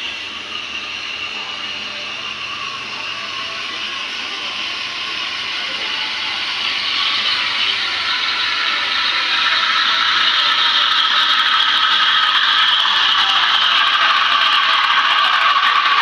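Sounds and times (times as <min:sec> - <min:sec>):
steam wand hissing in milk: 0:00.0 - 0:16.0.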